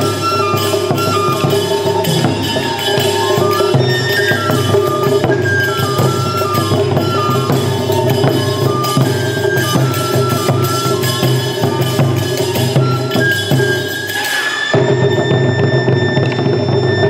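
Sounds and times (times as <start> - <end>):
bamboo flute melody: 0.0 - 17.0
light percussion strokes: 0.0 - 17.0.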